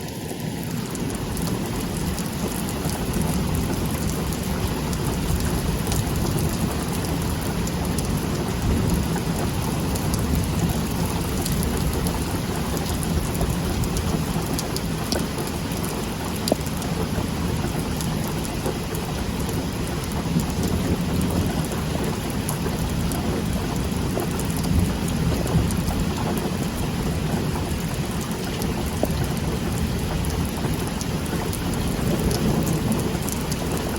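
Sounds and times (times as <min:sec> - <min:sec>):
heavy rain pouring: 0:00.0 - 0:33.9
raindrops ticking on a surface: 0:00.0 - 0:33.9.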